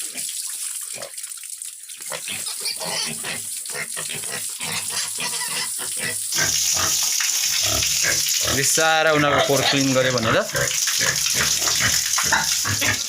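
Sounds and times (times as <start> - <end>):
water running: 0.0 - 13.0
pigs grunting: 2.2 - 13.0.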